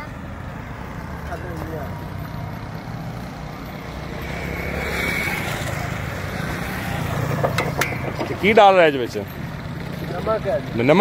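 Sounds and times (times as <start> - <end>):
road traffic rumble: 0.0 - 11.0
vehicle passing by: 0.0 - 11.0.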